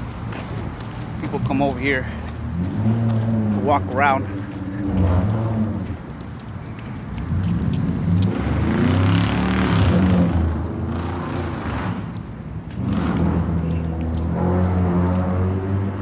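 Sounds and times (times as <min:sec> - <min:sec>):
traffic engine hum: 0:00.0 - 0:16.0
vehicle passing: 0:01.2 - 0:16.0.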